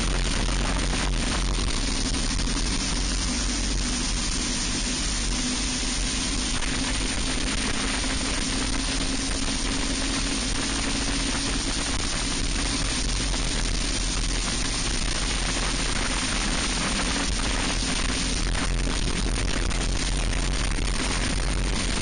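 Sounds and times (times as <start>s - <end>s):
kart engine at high revs: 0.0s - 22.0s.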